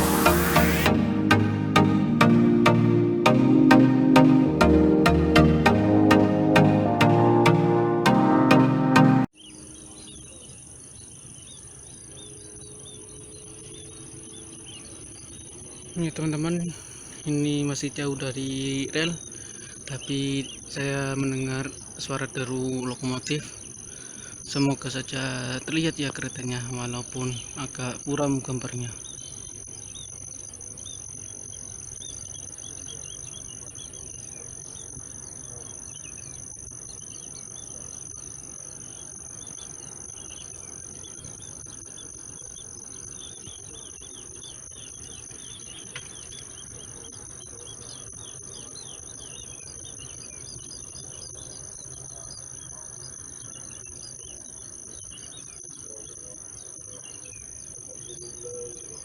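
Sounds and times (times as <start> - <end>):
crickets and insects trilling: 9.4 - 59.0.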